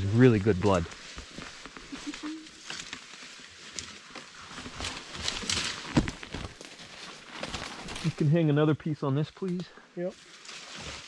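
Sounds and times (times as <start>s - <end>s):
leaves and twigs crackling: 0.0s - 11.0s
footsteps through leaf litter: 0.1s - 8.3s, 10.2s - 11.0s.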